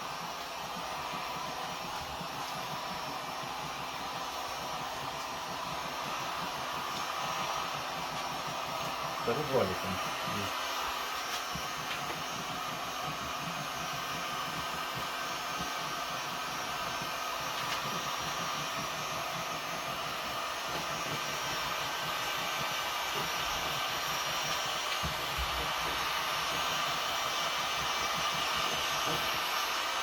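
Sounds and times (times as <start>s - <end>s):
heat gun fan blowing hot air: 0.0s - 30.0s.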